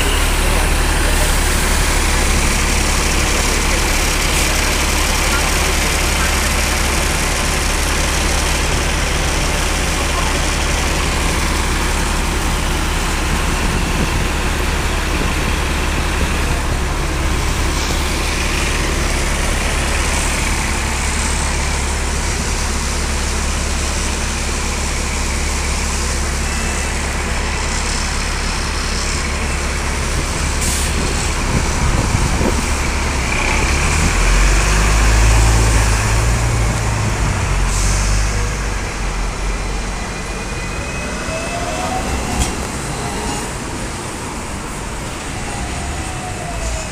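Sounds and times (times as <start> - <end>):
bus engine rumble: 0.0 - 46.9
roadside traffic noise: 0.0 - 46.9.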